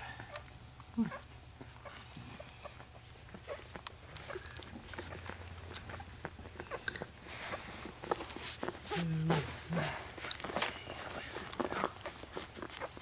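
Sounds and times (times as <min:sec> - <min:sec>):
puppies suckling: 0:00.0 - 0:13.0.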